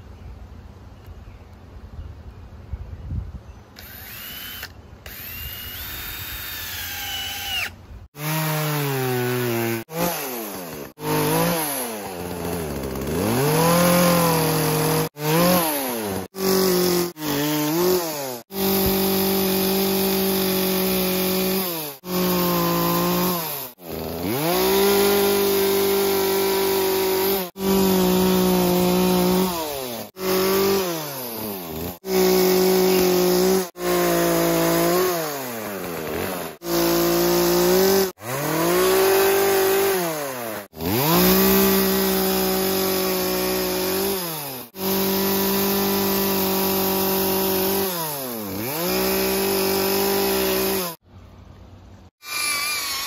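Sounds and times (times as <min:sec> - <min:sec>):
chainsaw cutting wood: 0:03.8 - 0:51.0, 0:52.1 - 0:53.0
drill whining: 0:03.8 - 0:51.0, 0:52.1 - 0:53.0.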